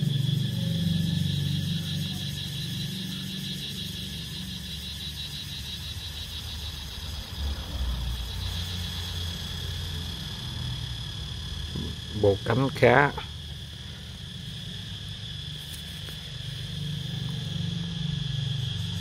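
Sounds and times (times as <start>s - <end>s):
high insect trill: 0.0s - 19.0s
low engine-like rumble: 0.0s - 19.0s.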